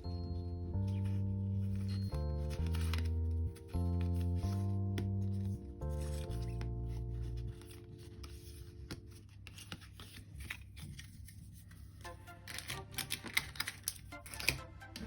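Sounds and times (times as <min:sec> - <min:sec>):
background music: 0:00.0 - 0:10.2, 0:11.9 - 0:15.0
packaging rustling and clicking: 0:01.0 - 0:15.0.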